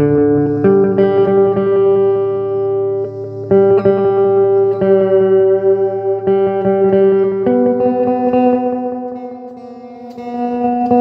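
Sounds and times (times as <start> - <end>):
electric guitar ringing chords: 0.0 - 11.0.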